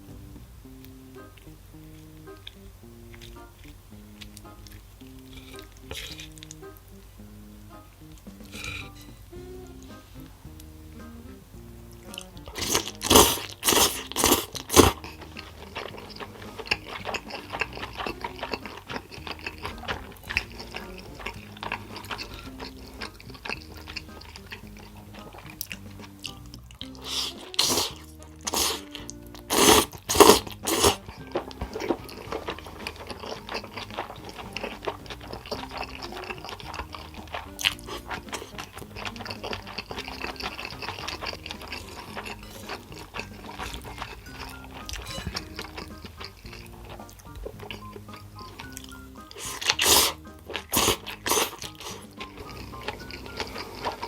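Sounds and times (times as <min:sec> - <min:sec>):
quiet background music: 0:00.0 - 0:54.0
person chewing crunchy food: 0:01.3 - 0:06.8, 0:08.2 - 0:09.1, 0:11.9 - 0:54.0.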